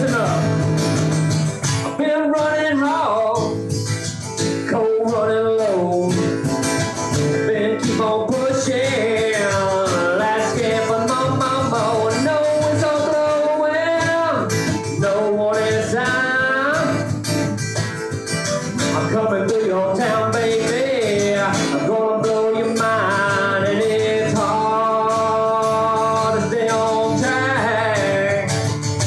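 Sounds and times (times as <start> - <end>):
man singing: 0.0 - 0.8, 1.7 - 17.5, 18.6 - 29.0
acoustic guitars strumming: 0.0 - 29.0.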